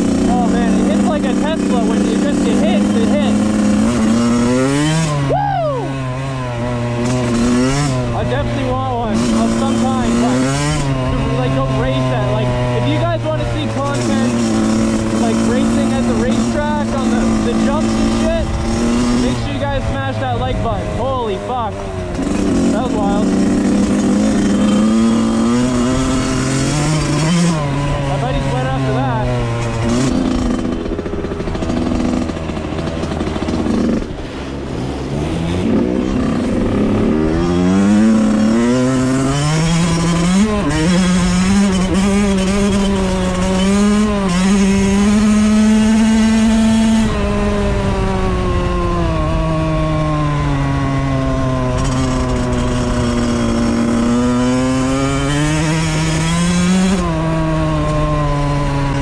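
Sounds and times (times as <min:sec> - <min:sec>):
dirt bike engine revving: 0:00.0 - 0:59.0
wind and road noise: 0:00.0 - 0:59.0.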